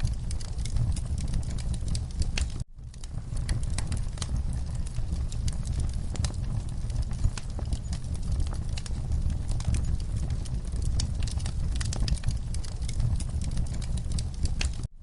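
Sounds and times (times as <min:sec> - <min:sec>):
fire popping and snapping: 0:00.0 - 0:15.0
low rumble of flames: 0:00.0 - 0:15.0
wood fire crackling: 0:00.0 - 0:15.0.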